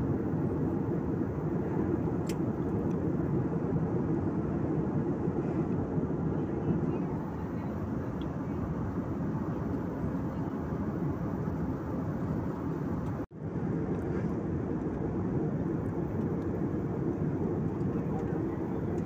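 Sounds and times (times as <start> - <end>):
jet airliner cabin noise: 0.0 - 19.0.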